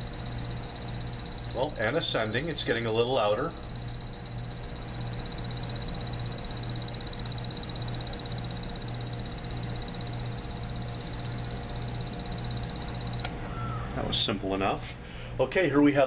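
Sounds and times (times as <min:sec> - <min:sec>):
alarm clock beeping: 0:00.0 - 0:13.3.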